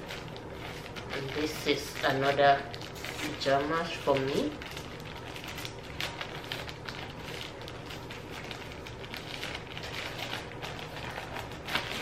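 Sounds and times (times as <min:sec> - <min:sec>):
plastic packaging crinkling: 0:00.0 - 0:12.0
steady low hum: 0:00.0 - 0:12.0.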